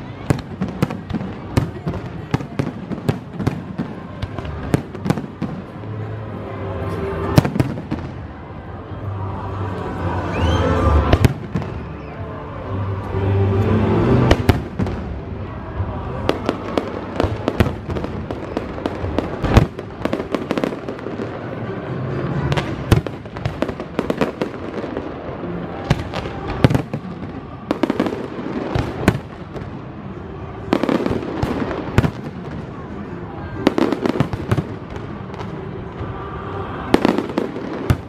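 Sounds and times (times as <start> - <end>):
fireworks bangs and crackles: 0.0 - 9.0, 10.8 - 38.0.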